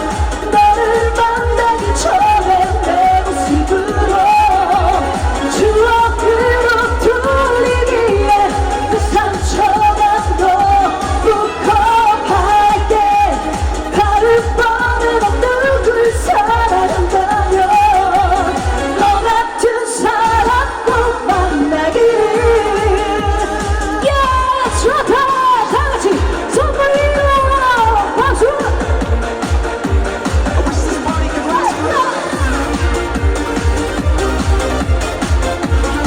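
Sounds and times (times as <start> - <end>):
trot song over loudspeakers: 0.0 - 36.0.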